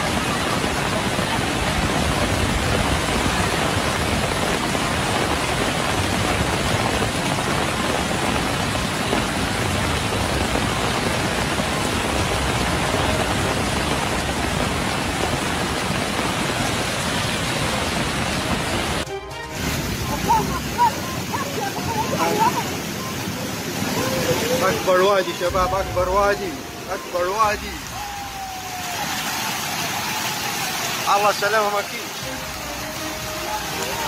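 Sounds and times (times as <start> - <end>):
floodwater rushing down a street: 0.0 - 34.0.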